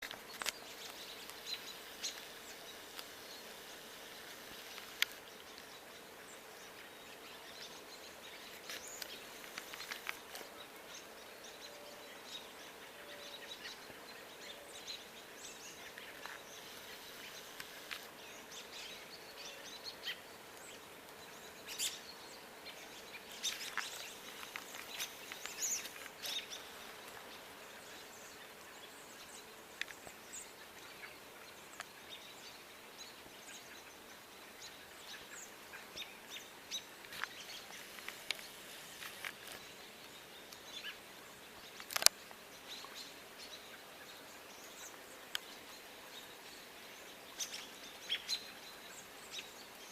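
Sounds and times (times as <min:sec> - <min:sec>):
background hiss: 0:00.0 - 0:49.9
wild birds chirping: 0:00.0 - 0:49.9.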